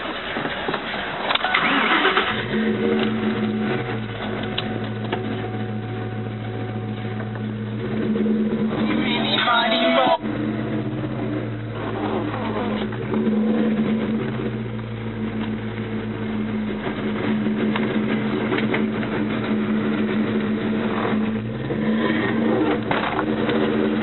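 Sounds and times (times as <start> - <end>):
car engine running inside cabin: 0.1 - 24.0.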